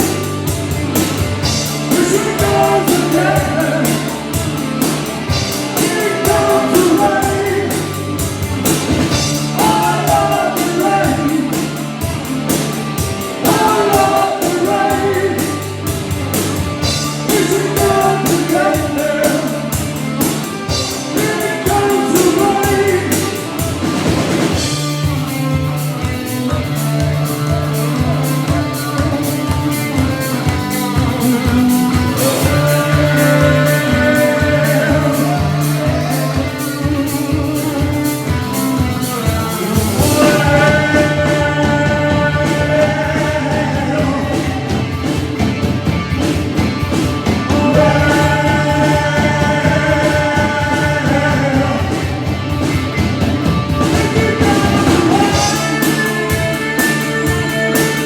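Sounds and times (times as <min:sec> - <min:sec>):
bass guitar: 0:00.0 - 0:58.0
electric guitar: 0:00.0 - 0:58.0
fast drum beat: 0:00.0 - 0:58.0
person singing: 0:01.4 - 0:12.2, 0:13.0 - 0:16.0, 0:16.8 - 0:19.9, 0:20.7 - 0:24.8, 0:26.3 - 0:45.4, 0:47.1 - 0:58.0.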